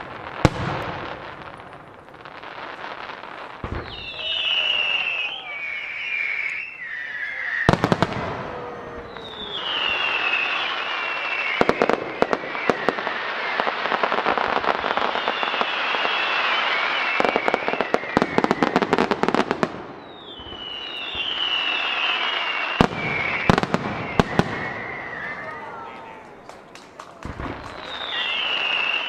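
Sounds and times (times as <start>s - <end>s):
crackling firework bursts: 0.0s - 29.0s
firework bangs: 0.0s - 29.0s
firework whistles sliding down: 2.9s - 26.5s, 27.4s - 29.0s.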